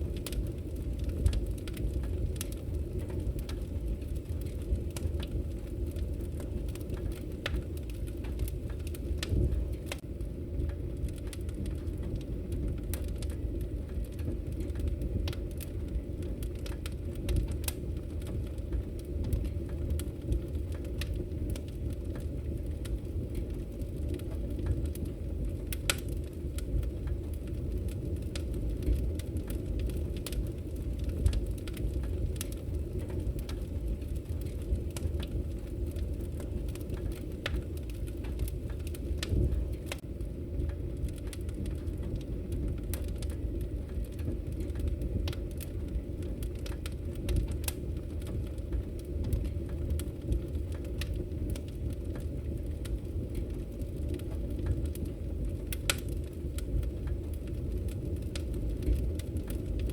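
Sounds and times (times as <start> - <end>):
logs crackling and popping: 0.0 - 59.9
rush of fire flames: 0.0 - 59.9.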